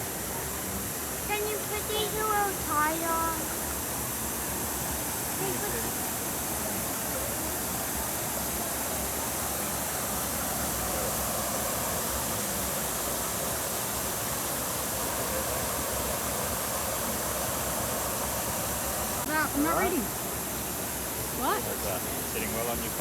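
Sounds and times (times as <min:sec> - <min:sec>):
water pouring over small waterfall: 0:00.0 - 0:19.4.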